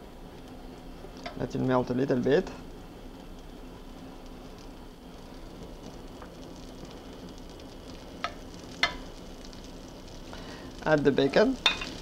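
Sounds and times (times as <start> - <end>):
butter sizzling in skillet: 0.1 - 12.0.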